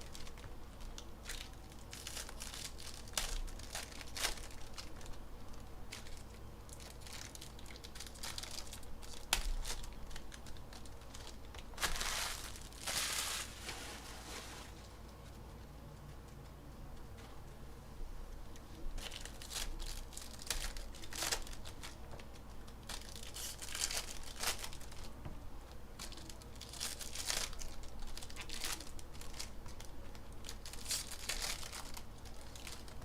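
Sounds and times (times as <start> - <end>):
foil wrapping crinkling and tearing: 0.0 - 14.8, 18.8 - 25.2, 26.0 - 33.0.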